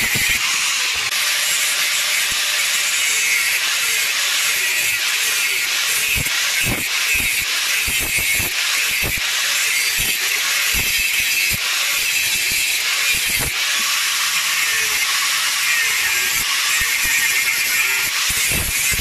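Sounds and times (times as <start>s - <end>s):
angle grinder grinding steel: 0.0s - 19.0s.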